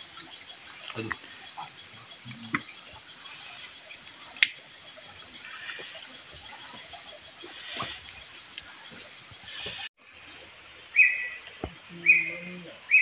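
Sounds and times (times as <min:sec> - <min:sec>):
forest insects droning: 0:00.0 - 0:13.0.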